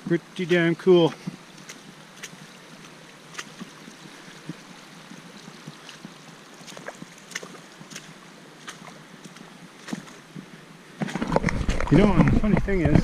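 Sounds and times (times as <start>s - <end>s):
creek water running over rock: 0.0s - 13.0s
small sharp ticks and splashes: 0.4s - 12.0s.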